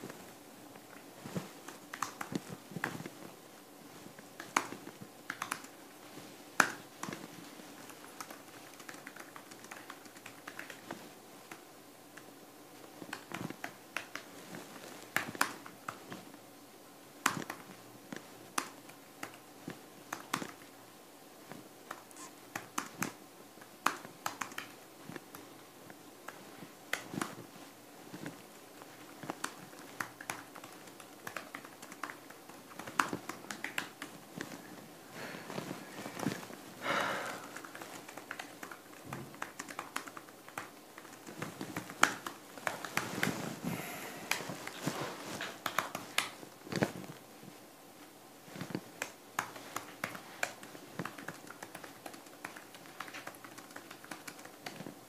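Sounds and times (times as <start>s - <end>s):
faint room hum: 0.0s - 55.0s.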